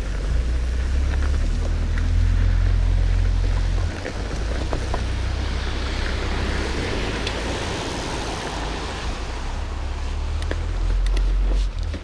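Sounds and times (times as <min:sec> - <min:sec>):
bike tyres rolling on dirt: 0:00.0 - 0:12.0
wind rumbling on microphone: 0:00.0 - 0:12.0.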